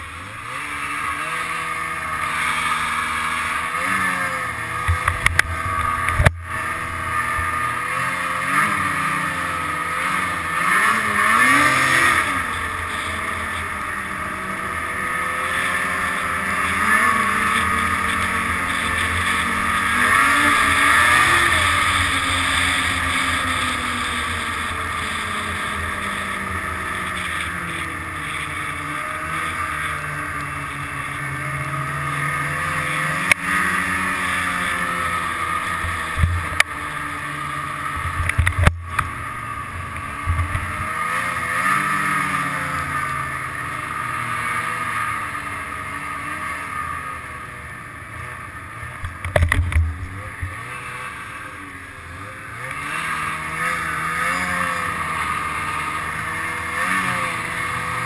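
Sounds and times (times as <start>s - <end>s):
snowmobile engine: 0.0s - 58.0s.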